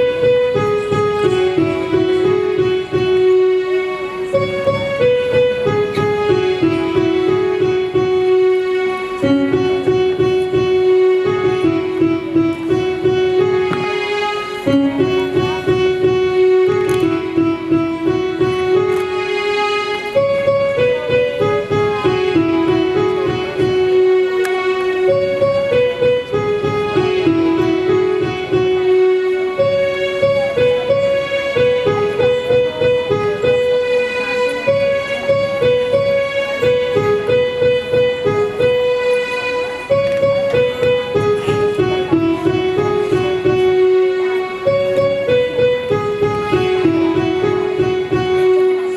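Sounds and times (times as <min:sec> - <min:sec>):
electronic keyboard melody: 0:00.0 - 0:48.9
low rhythmic pulse: 0:00.0 - 0:48.9.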